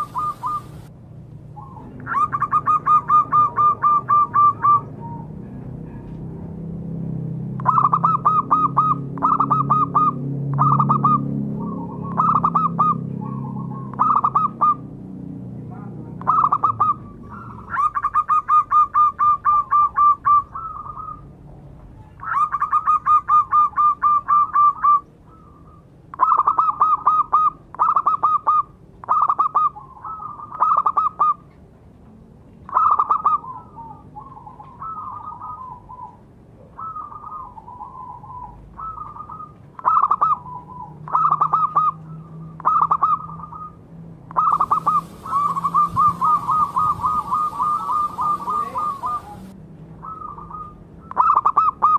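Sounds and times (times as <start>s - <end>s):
dove cooing: 0.0s - 0.9s, 1.5s - 5.6s, 7.6s - 14.8s, 15.7s - 31.4s, 32.7s - 43.8s, 44.4s - 51.9s.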